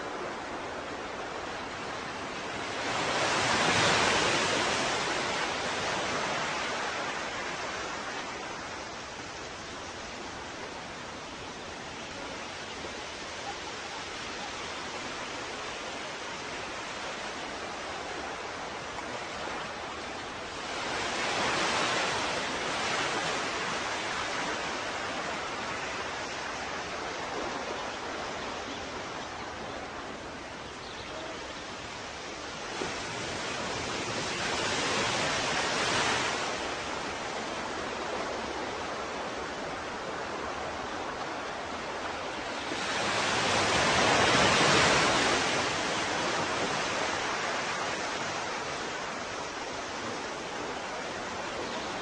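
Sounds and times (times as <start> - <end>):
ocean waves breaking: 0.0 - 52.0.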